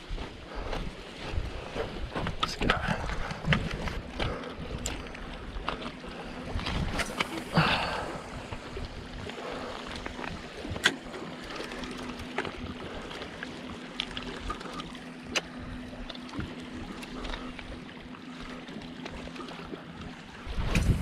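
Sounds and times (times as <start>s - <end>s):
steady low hum: 0.0s - 21.0s
small waves on rocks: 1.3s - 21.0s.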